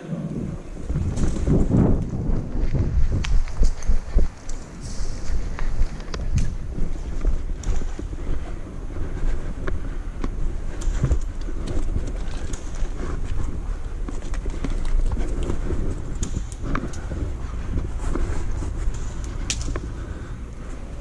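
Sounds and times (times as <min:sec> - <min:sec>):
low rumbling handling noise: 0:00.0 - 0:21.0.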